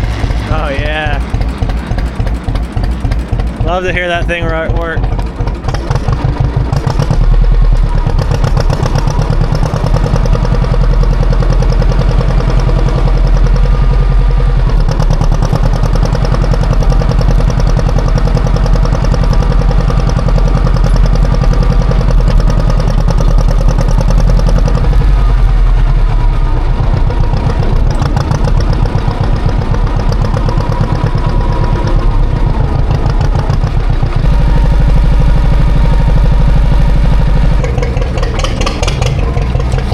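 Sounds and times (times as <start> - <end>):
tractor engine working hard: 0.0 - 39.9.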